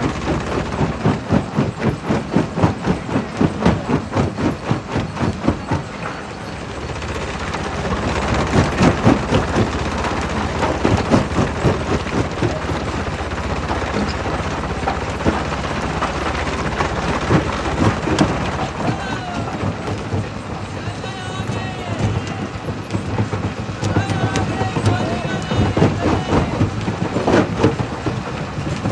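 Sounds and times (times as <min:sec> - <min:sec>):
machine rumble: 0:00.0 - 0:28.9.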